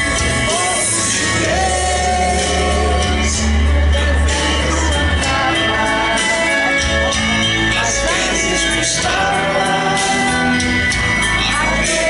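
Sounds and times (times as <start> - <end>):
hymn singing with accompaniment: 0.0 - 12.0.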